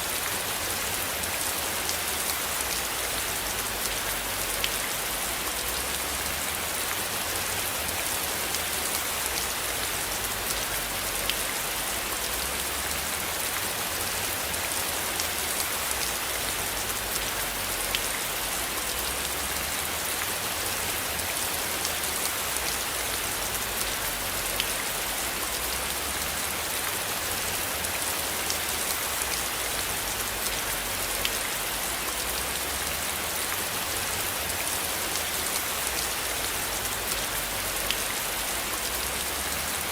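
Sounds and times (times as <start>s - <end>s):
rain drops ticking: 0.0s - 39.9s
rain falling: 0.0s - 39.9s.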